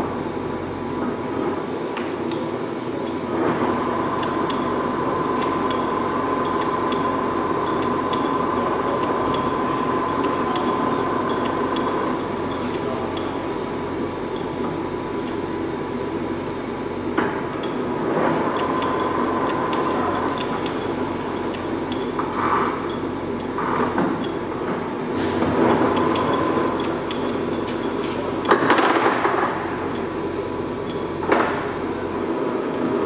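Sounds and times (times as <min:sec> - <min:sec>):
lathe whine with gear clatter: 0:00.0 - 0:33.0.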